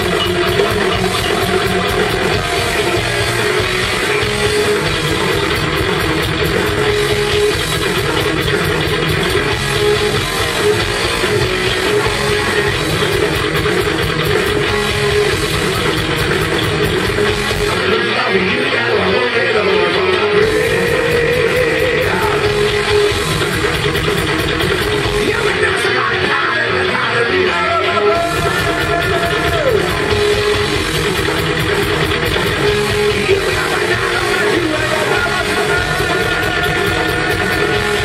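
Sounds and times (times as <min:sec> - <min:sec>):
heavy metal band playing live: 0:00.0 - 0:38.0
repeated guitar notes: 0:00.0 - 0:38.0.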